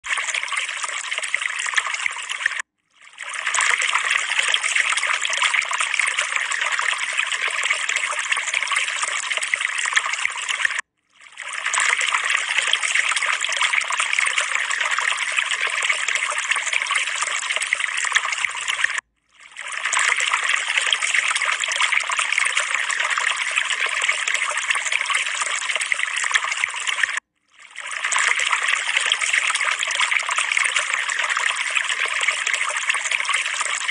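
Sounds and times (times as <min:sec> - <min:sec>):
trickling running water: 0:00.0 - 0:33.9.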